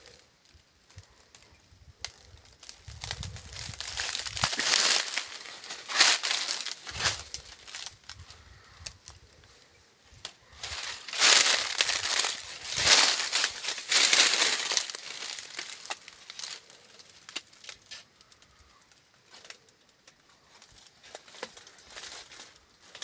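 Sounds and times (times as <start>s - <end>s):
leaves and twigs rustling: 0.0s - 23.0s.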